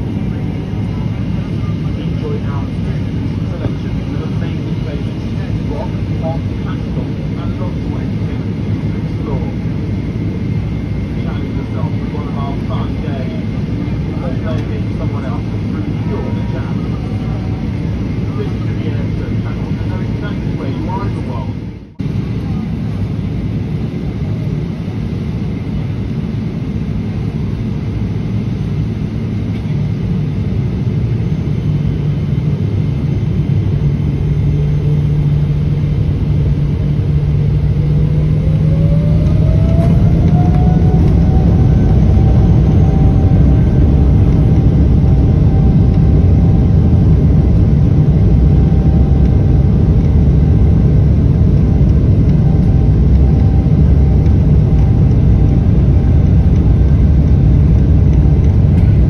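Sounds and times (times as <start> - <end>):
jet engine whine: 0.0 - 59.0
low engine rumble: 0.0 - 59.0.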